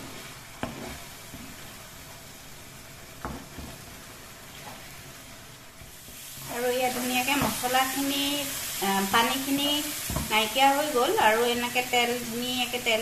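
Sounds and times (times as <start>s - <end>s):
spice paste sizzling and bubbling: 0.0s - 13.0s.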